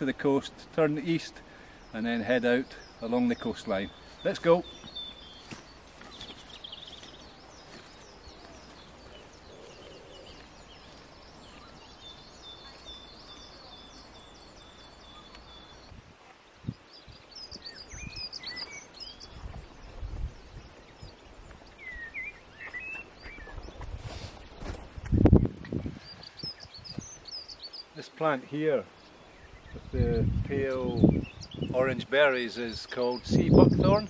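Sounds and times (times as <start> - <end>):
small birds chirping and trilling: 0.0 - 34.0.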